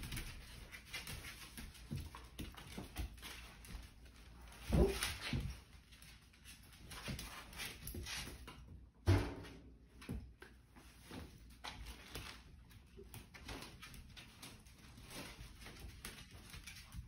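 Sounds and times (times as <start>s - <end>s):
puppies scuffling on tile floor: 0.0s - 9.0s, 9.8s - 17.0s.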